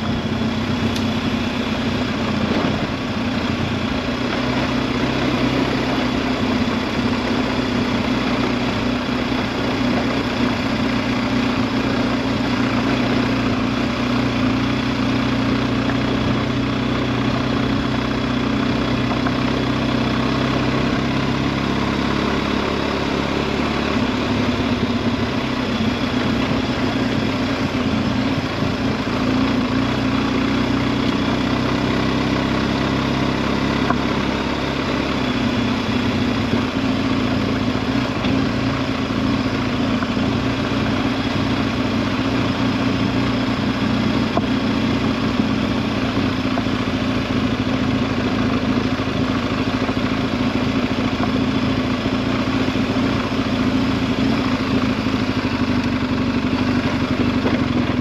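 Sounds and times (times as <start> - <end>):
motorcycle engine running at low revs: 0.0 - 58.0.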